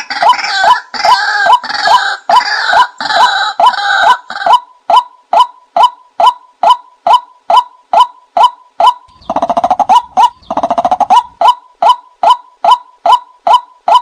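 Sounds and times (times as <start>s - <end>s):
recorded watercock calls: 0.0s - 14.0s.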